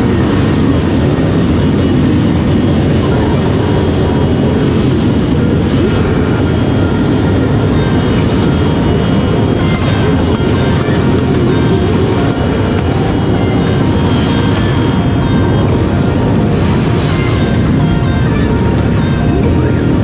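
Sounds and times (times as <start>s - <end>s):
motorcycle engines idling: 0.0s - 20.0s.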